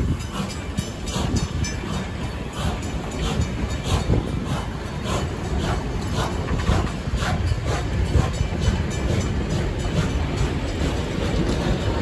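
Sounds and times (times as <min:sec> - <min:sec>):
train wheels clacking: 0:00.0 - 0:12.0.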